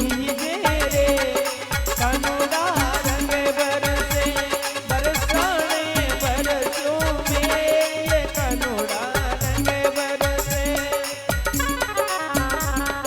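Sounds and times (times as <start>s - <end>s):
steady low drum beat: 0.0s - 13.0s.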